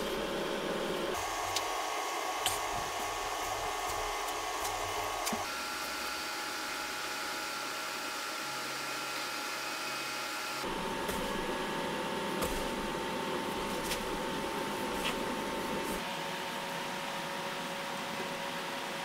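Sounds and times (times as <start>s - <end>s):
machine hum and whir: 0.0s - 19.0s.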